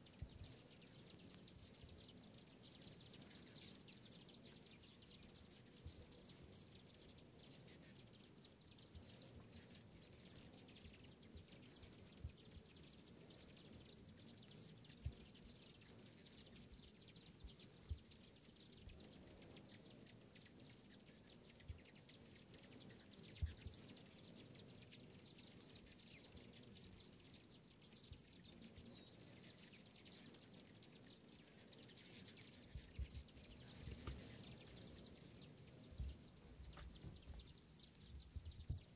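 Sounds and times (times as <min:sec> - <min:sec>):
insects chorus shrill drone: 0:00.0 - 0:19.3, 0:21.4 - 0:38.9.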